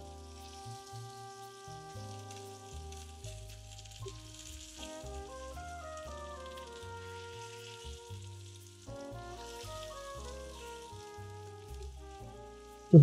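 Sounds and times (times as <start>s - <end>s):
background music with bass line: 0.0s - 13.0s
potato slices sizzling in oil: 0.0s - 13.0s.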